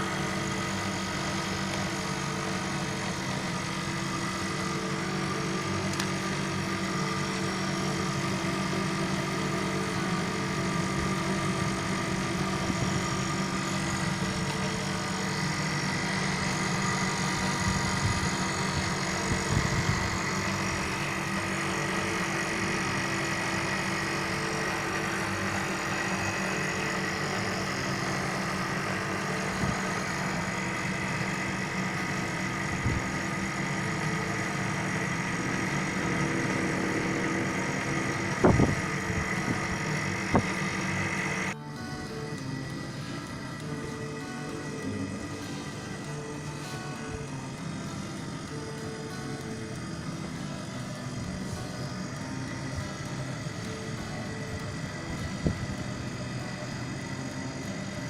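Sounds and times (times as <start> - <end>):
air conditioner humming: 0.0 - 58.0.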